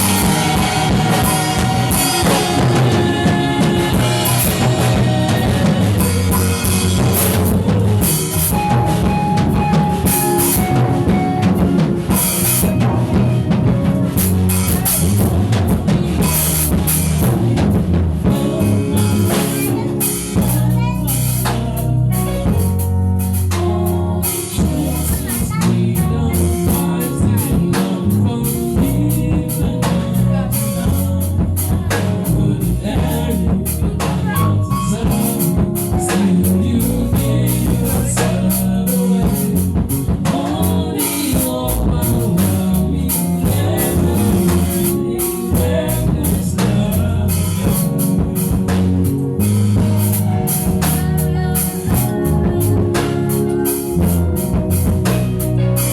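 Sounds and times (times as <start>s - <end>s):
drum kit: 0.0s - 55.9s
person singing: 0.0s - 55.9s.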